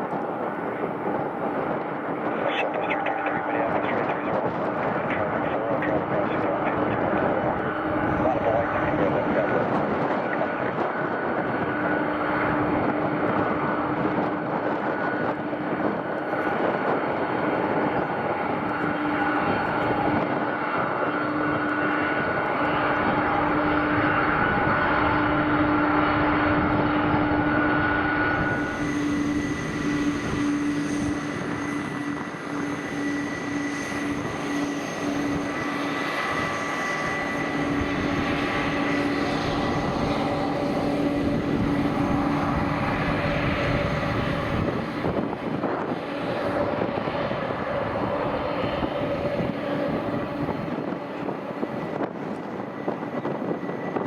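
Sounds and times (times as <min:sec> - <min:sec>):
jet engine whine: 0:00.0 - 0:54.0
jet engines running: 0:00.0 - 0:54.0.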